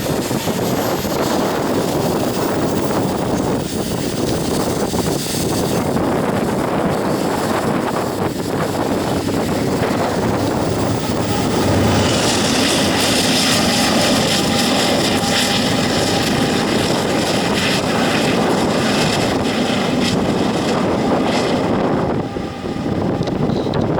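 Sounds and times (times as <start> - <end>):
train wheels rumbling on rail: 0.0 - 23.9.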